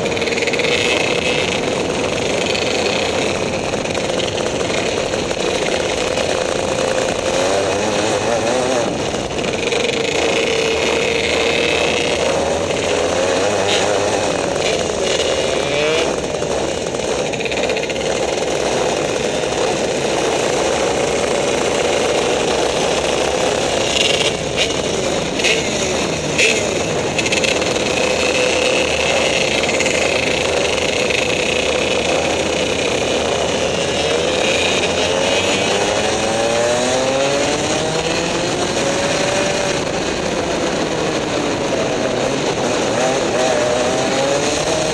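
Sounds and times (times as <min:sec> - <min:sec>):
kart engine racing: 0:00.0 - 0:44.9.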